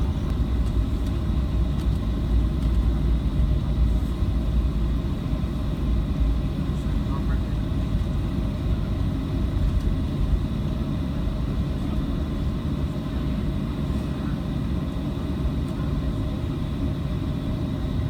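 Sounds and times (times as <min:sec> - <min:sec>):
aircraft engines idling: 0:00.0 - 0:18.0.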